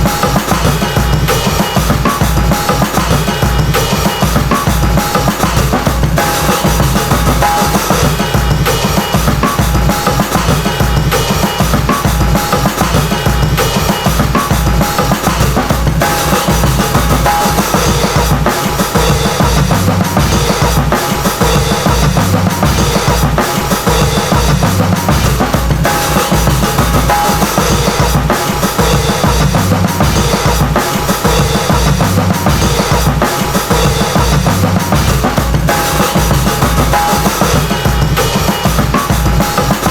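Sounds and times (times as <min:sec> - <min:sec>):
hip-hop drum beat: 0:00.0 - 0:39.9.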